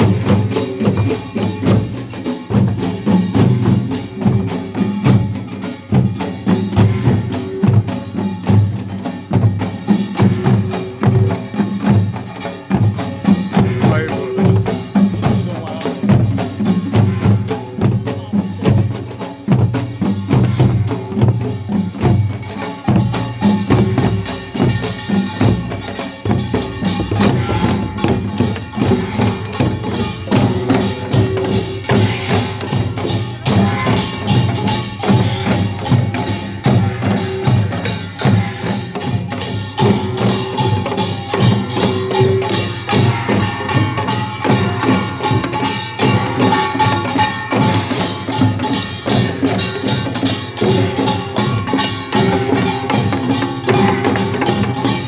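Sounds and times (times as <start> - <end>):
small gongs and drums playing: 0.0 - 55.0.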